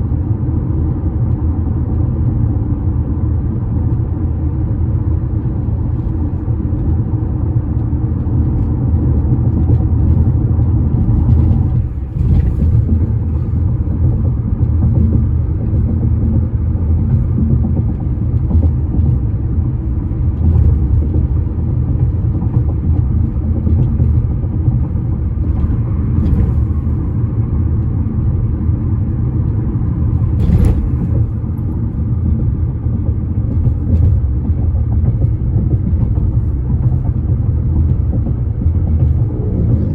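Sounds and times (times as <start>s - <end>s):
bridge rumbling drone: 3.8s - 39.9s.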